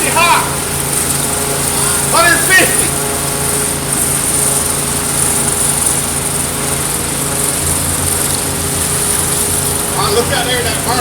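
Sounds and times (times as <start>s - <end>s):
pressure washer engine hum: 0.0s - 11.0s.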